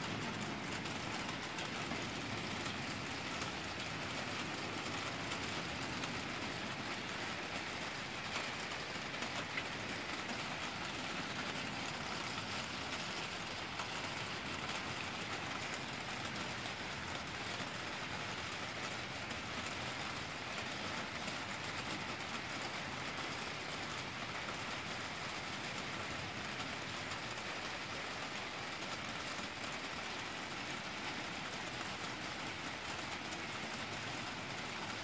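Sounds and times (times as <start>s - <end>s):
rain on foliage and paving: 0.0s - 35.0s.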